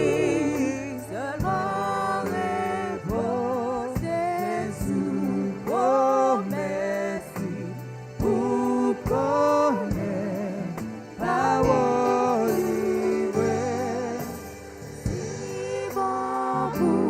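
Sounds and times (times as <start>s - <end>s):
congregation singing a hymn: 0.0s - 17.0s
instrumental accompaniment: 0.0s - 17.0s.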